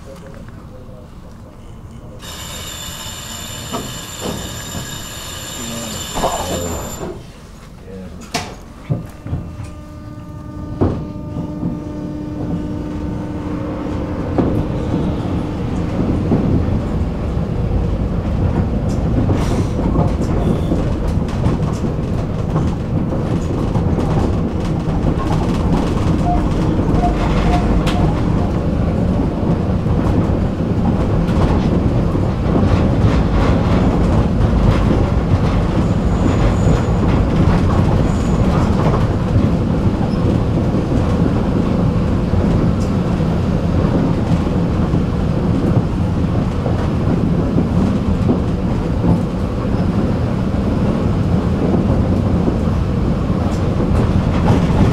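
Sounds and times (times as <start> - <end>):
tram wheels rumbling on rails: 0.0 - 54.9.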